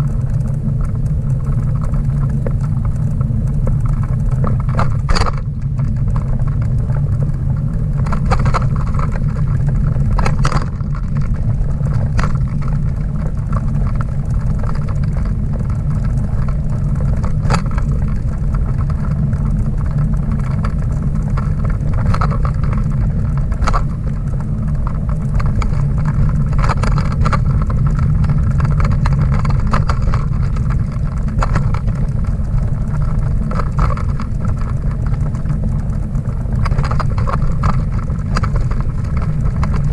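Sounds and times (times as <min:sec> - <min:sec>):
trailer rolling over pavement: 0:00.0 - 0:39.9.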